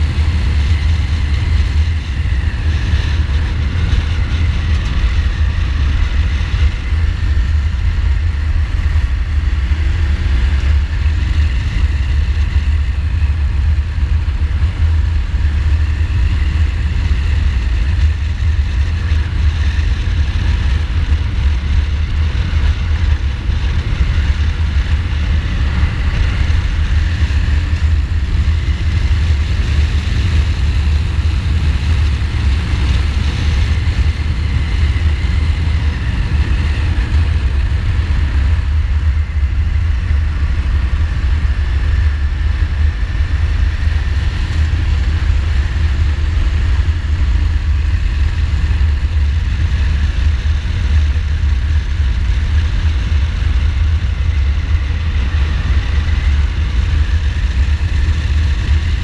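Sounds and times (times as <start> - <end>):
low wind rumble on microphone: 0.0 - 59.0
motorcycle engine at road speed: 0.0 - 59.0.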